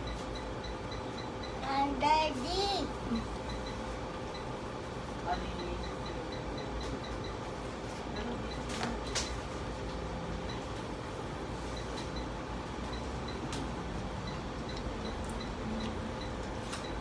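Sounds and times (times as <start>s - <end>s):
air conditioning hum: 0.0s - 17.0s.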